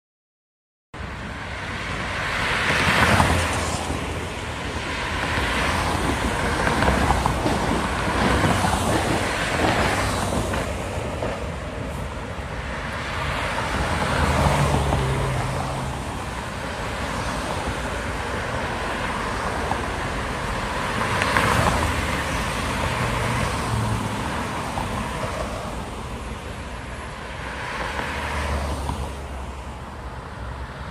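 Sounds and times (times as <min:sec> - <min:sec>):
background traffic: 0:01.0 - 0:30.9
cars passing: 0:01.0 - 0:30.9.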